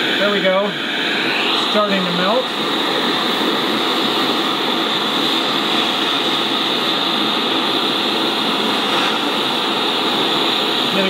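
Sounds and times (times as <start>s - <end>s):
propane torch hissing: 0.0s - 11.0s.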